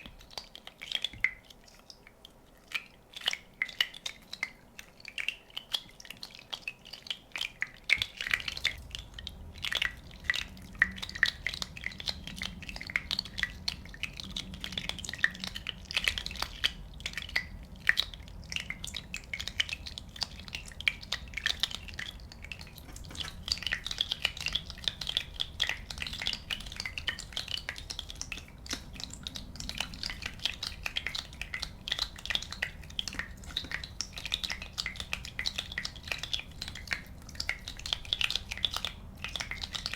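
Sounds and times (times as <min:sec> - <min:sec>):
bubbles popping and crackling: 0:00.0 - 0:39.9
low steady hum: 0:00.0 - 0:39.9.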